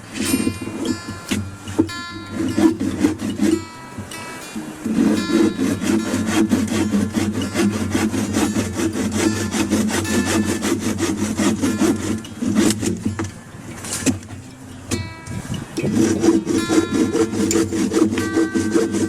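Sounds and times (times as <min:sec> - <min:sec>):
hand saw cutting wood: 0:00.0 - 0:19.0.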